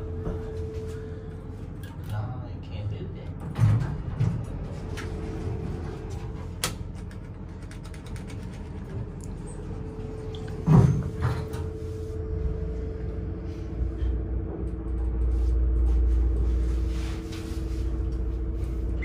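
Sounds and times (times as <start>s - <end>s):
steady hum: 0.0s - 3.6s, 4.2s - 19.0s
elevator car rumbling: 0.0s - 19.0s.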